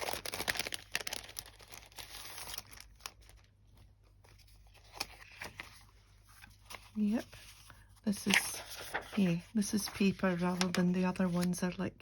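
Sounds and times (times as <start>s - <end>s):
paper rustling and crinkling: 0.0s - 11.8s.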